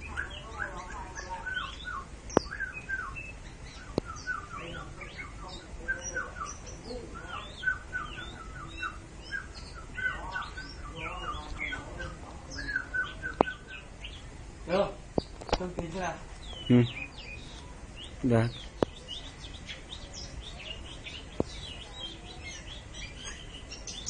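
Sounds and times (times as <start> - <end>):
bird singing chirps and trills: 0.0 - 24.0.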